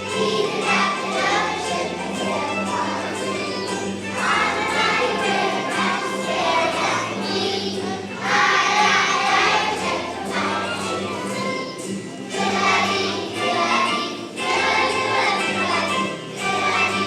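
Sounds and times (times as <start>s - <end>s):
musical accompaniment: 0.0s - 17.0s
young children singing: 0.0s - 17.0s.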